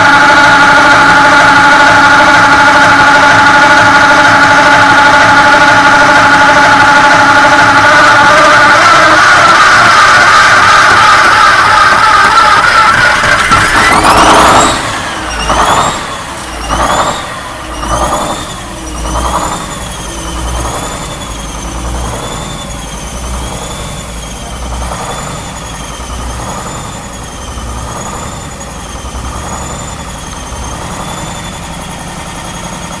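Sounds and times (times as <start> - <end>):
diesel engine idling: 0.0 - 33.0
high wavering whine: 0.0 - 33.0.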